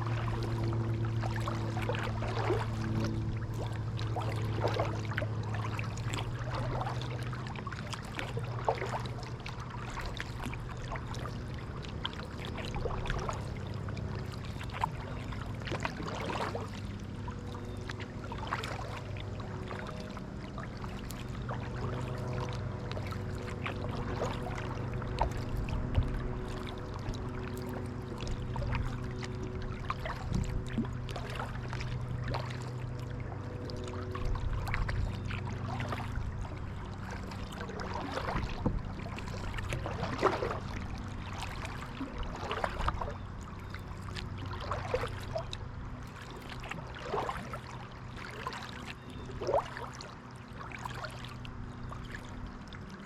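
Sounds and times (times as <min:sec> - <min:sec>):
paddle splashing water: 0:00.0 - 0:53.0
steady low hum: 0:00.0 - 0:53.0.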